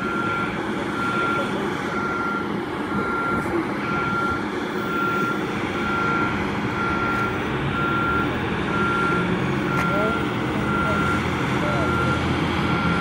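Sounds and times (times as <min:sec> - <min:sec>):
warning beeper: 0:00.0 - 0:11.2
engine rumble: 0:00.0 - 0:13.0.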